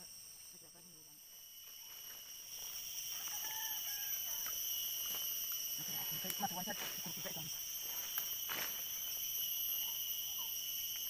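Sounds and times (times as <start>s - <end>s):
insects buzzing drone: 0.0s - 11.0s.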